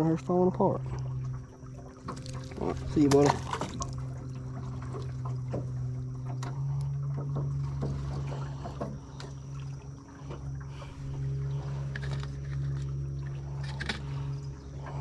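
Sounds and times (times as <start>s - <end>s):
electric boat motor humming: 0.0s - 15.0s.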